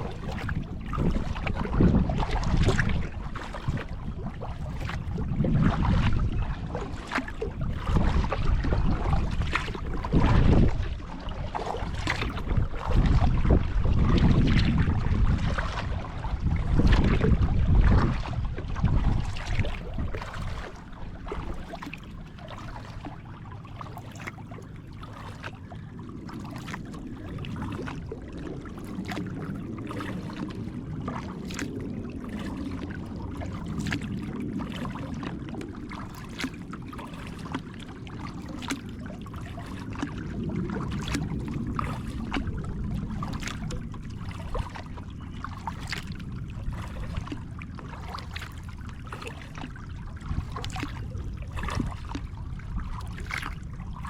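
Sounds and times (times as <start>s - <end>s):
water lapping around kayak: 0.0s - 54.0s.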